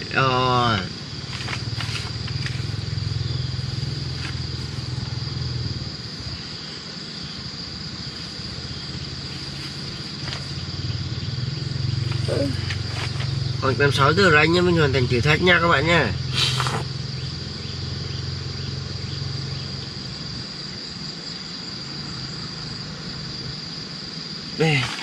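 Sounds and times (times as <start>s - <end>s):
high insect drone: 0.0s - 25.0s
low motor hum: 0.7s - 21.0s.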